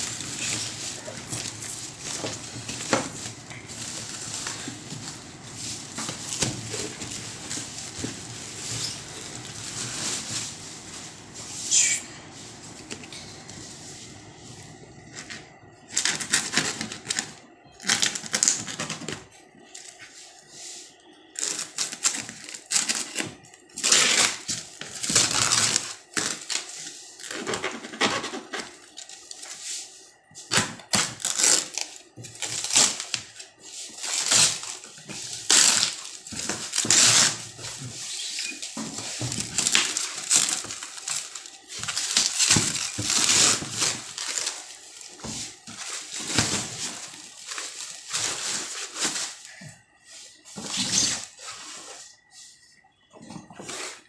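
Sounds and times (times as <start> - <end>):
foam wrap crinkling and tearing: 0.0 - 11.8, 15.9 - 20.1, 21.4 - 29.6, 30.4 - 49.6.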